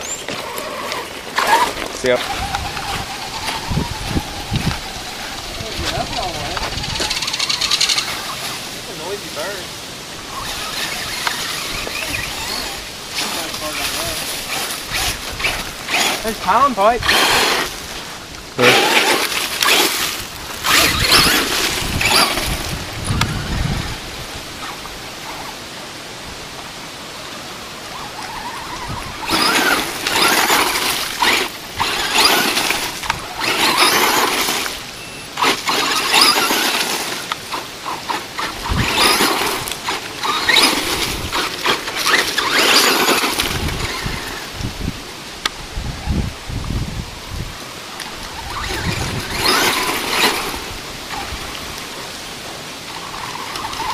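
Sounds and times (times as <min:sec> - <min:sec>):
electric rc truck motor: 0:00.0 - 0:09.6, 0:10.2 - 0:25.6, 0:27.8 - 0:45.0, 0:47.6 - 0:53.9
tires crunching on gravel: 0:00.0 - 0:45.4, 0:46.4 - 0:53.9.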